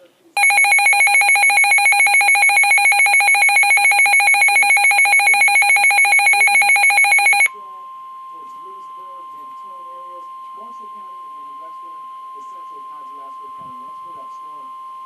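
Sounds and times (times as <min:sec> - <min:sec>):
high-pitched pulsing alarm tone: 0:00.4 - 0:15.0.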